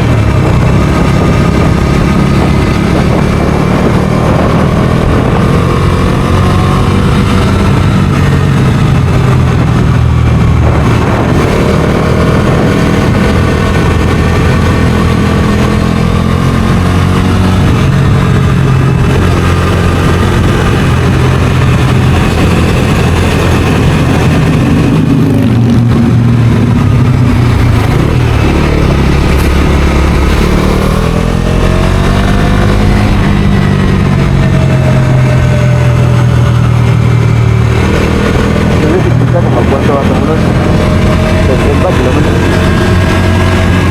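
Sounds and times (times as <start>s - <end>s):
motorcycle engine revving: 0.0s - 43.9s
wind and road noise: 0.0s - 43.9s.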